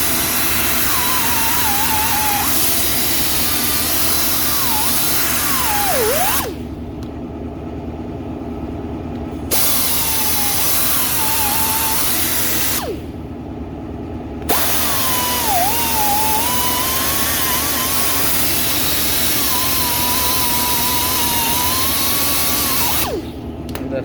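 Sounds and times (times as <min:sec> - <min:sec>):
power tool whining: 0:00.0 - 0:07.1, 0:09.3 - 0:13.2, 0:14.4 - 0:23.8.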